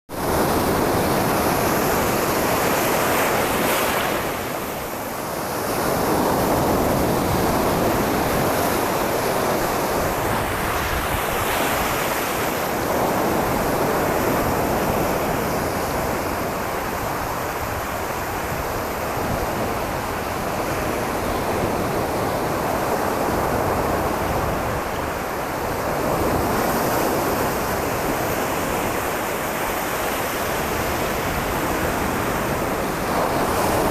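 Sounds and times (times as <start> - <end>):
ocean waves washing ashore: 0.1 - 33.9.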